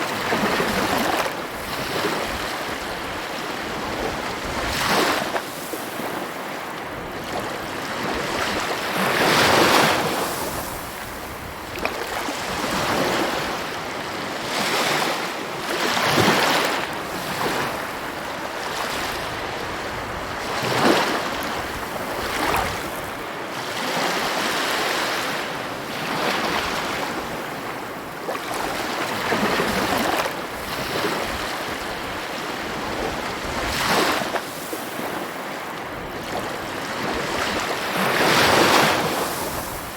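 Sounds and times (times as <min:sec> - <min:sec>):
sea waves surf: 0:00.0 - 0:39.9.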